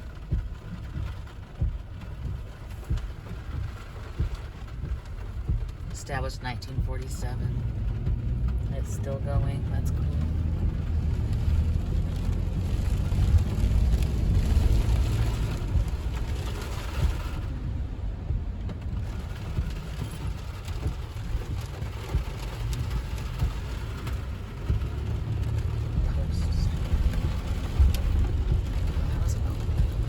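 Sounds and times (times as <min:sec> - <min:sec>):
road and engine rumble: 0:00.0 - 0:30.0
tyres hissing on wet road: 0:00.0 - 0:30.0.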